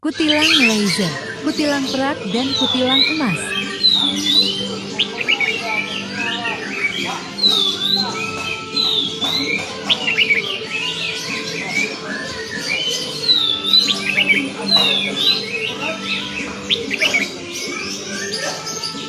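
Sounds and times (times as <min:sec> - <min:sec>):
background music: 0:00.0 - 0:19.0
bird chirpy whistled calls: 0:00.2 - 0:19.0.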